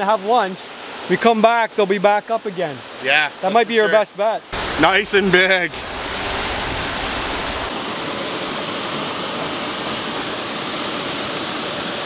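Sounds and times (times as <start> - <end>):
river water over rocks: 0.0 - 12.0.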